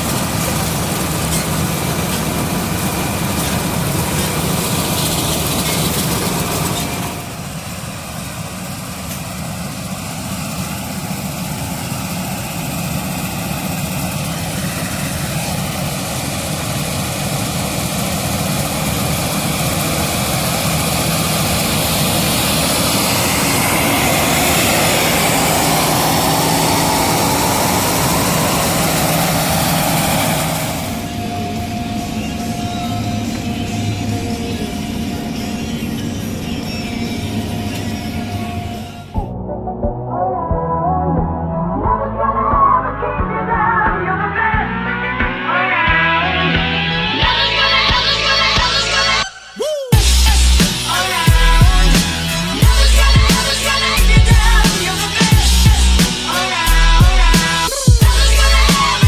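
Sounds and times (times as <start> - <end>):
combine harvester engine drone: 0.0 - 49.3, 49.9 - 59.0.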